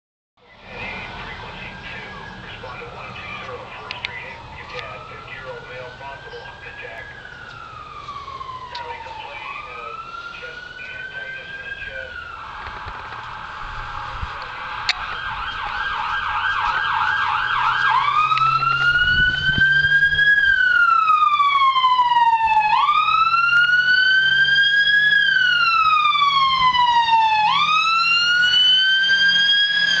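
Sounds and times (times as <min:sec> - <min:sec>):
ambulance siren: 0:00.4 - 0:30.0.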